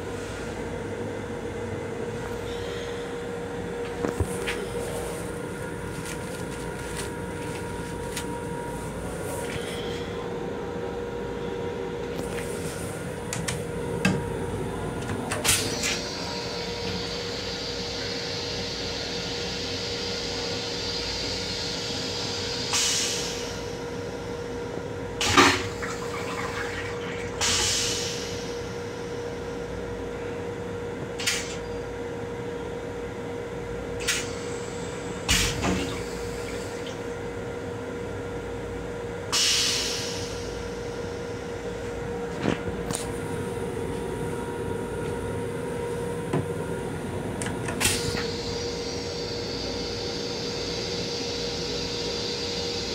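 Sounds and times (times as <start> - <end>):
railcar hum with steady tone: 0.0 - 52.9.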